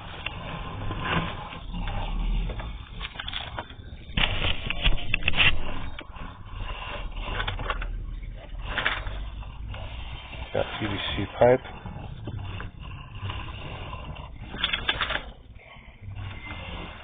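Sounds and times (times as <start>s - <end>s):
camera cable scraping in pipe: 0.0s - 17.0s.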